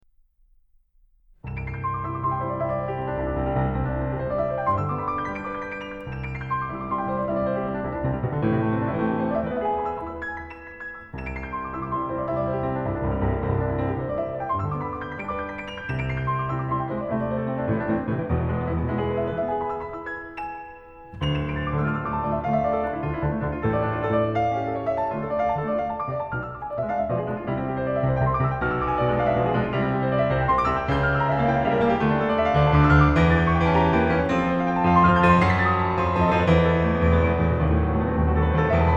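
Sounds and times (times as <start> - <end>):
piano music: 1.5 - 38.9.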